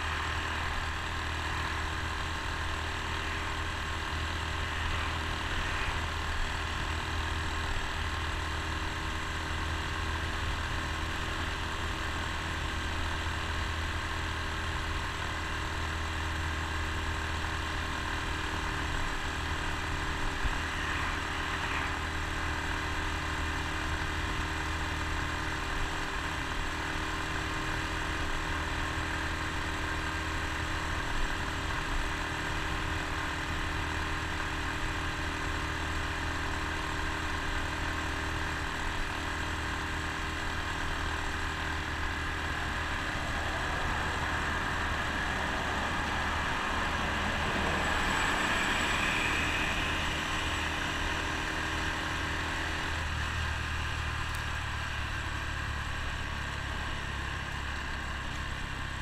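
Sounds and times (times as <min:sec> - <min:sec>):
motorcycle engine running: 0:00.0 - 0:59.0
road noise: 0:00.0 - 0:59.0
wind: 0:00.0 - 0:59.0.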